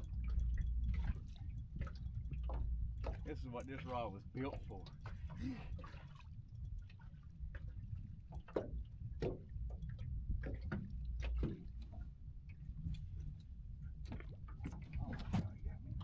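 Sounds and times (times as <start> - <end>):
low wind rumble on microphone: 0.0 - 16.0
small waves lapping against boat: 0.0 - 16.0.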